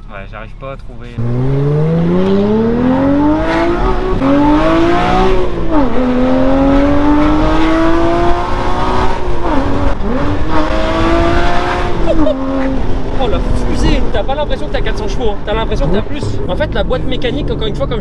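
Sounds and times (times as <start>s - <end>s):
sports car engine accelerating hard: 1.2s - 18.0s.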